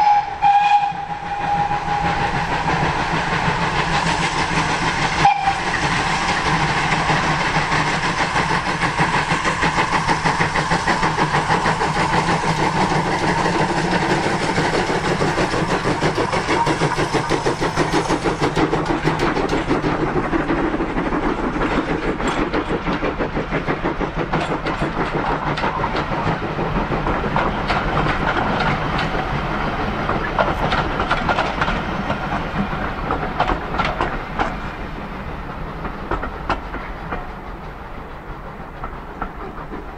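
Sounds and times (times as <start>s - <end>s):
steam locomotive chuffing: 0.0s - 39.9s
coach wheels clattering over rail joints: 0.1s - 39.9s.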